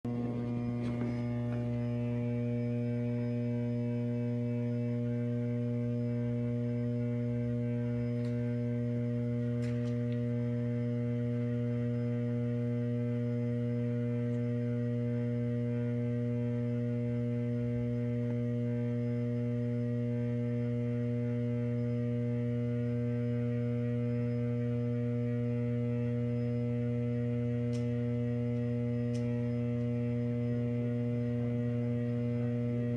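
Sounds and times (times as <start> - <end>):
transformer humming: 0.0 - 32.9.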